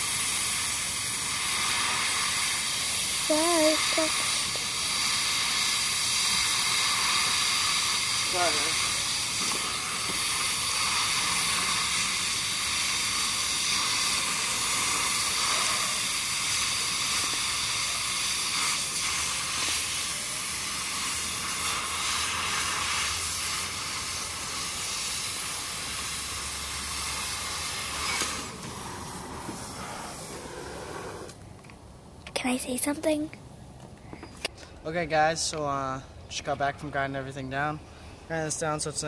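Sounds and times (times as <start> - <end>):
metal-cutting tool hissing: 0.0 - 31.4.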